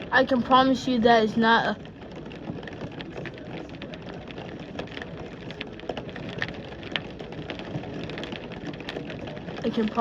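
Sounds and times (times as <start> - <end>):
raindrops ticking on a surface: 0.0 - 10.0
steady rain: 0.0 - 10.0.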